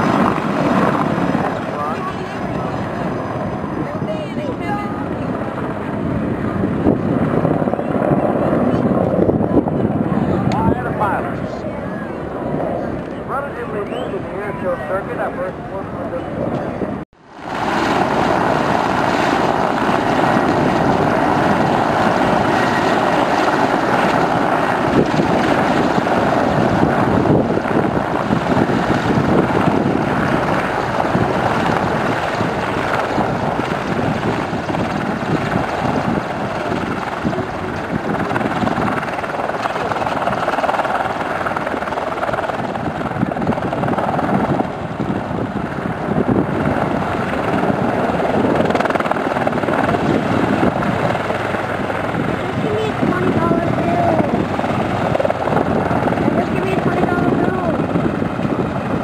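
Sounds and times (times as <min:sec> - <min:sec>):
helicopter turbines and rotor: 0:00.0 - 0:59.0.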